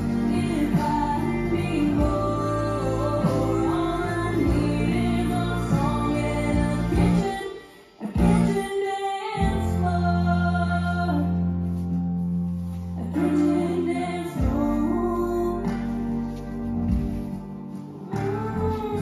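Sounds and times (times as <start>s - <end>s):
country song with singing and guitar: 0.0s - 19.0s.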